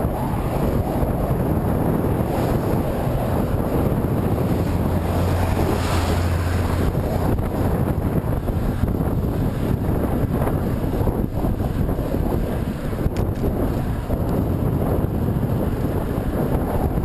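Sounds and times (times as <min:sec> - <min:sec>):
low hum: 0:00.0 - 0:16.1
wind buffeting the microphone: 0:00.0 - 0:17.0.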